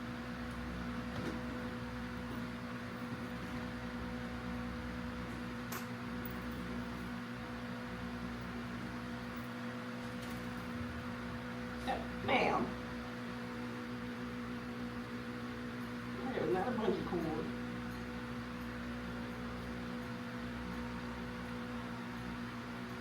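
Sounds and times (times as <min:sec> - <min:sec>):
electric hum with airy whir: 0:00.0 - 0:23.0.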